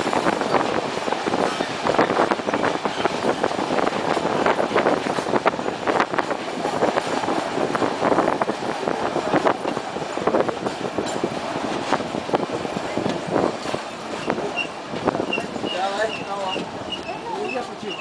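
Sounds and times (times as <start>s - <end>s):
train clattering and knocking: 0.0s - 18.0s
train wheels rumbling on rails: 0.0s - 18.0s.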